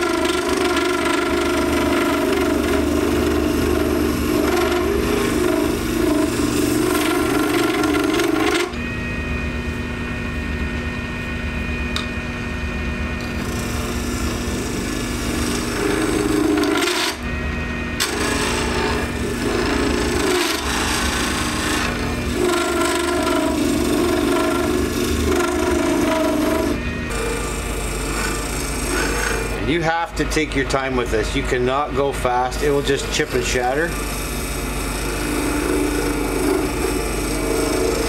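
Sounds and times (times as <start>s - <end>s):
lathe tool scraping plastic: 0.0s - 8.8s, 13.2s - 17.3s, 18.0s - 30.4s, 32.6s - 38.0s
lathe motor whine: 0.0s - 38.0s.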